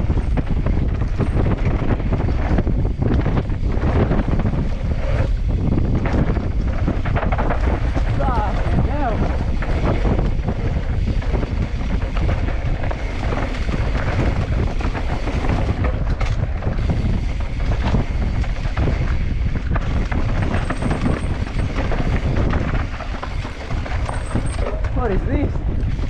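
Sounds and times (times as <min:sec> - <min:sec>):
bike rattling and clicking: 0:00.0 - 0:26.0
bike tyres running over dirt: 0:00.0 - 0:26.0
wind buffeting microphone: 0:00.0 - 0:26.0.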